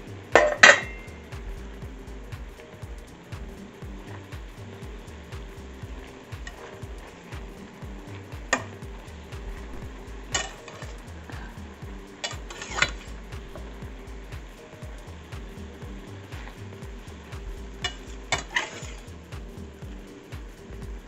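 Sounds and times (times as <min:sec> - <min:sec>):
music with steady low beat: 0:00.0 - 0:21.0
vegetables sizzling in a pan: 0:00.0 - 0:21.0
spatula stirring in a pan: 0:02.4 - 0:20.6.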